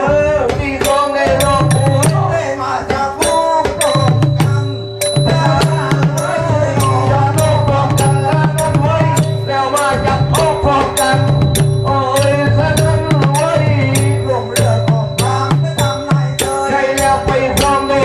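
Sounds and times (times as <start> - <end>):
held melodic tones: 0.0 - 18.0
pulsing low drum: 0.0 - 18.0
sharp clicking percussion: 0.0 - 18.0.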